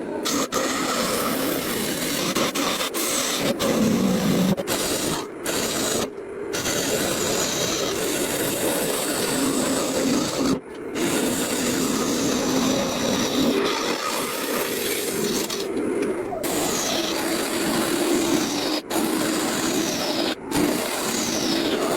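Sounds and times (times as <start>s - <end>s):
wood being sanded by hand: 0.3s - 15.7s, 16.4s - 21.9s.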